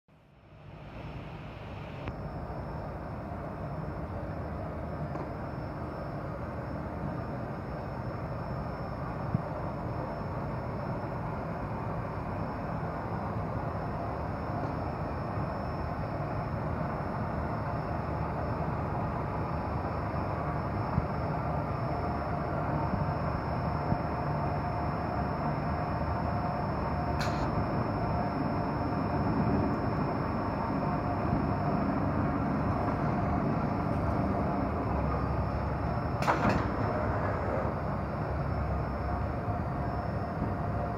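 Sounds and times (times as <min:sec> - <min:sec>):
faint high whine: 0:00.1 - 0:40.9.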